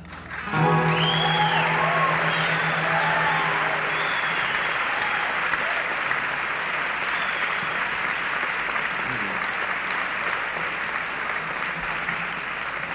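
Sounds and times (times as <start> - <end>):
audience applauding: 0.2 - 12.9.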